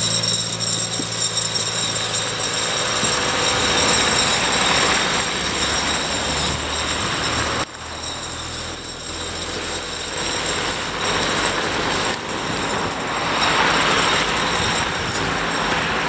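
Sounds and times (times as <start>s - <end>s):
diesel engine running: 0.0s - 16.0s
snow chains rattling on road: 0.0s - 16.0s.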